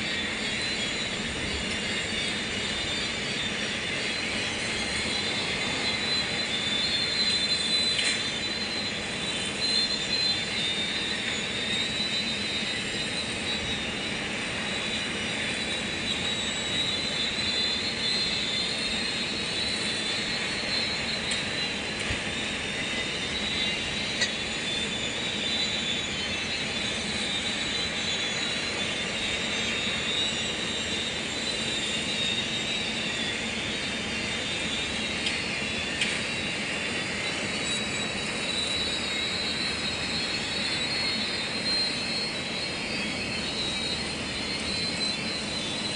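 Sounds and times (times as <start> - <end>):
high whine: 0.0 - 45.9.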